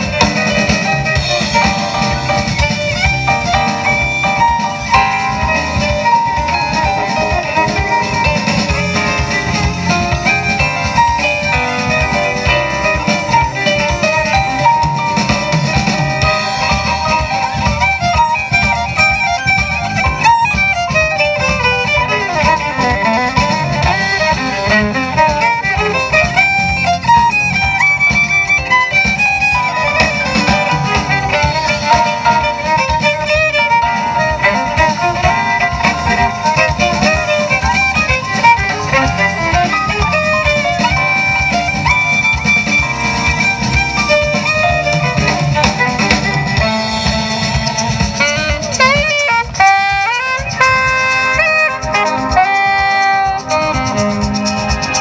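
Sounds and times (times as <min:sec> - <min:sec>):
jazz band playing: 0:00.0 - 0:55.0
violin lead: 0:00.0 - 0:55.0.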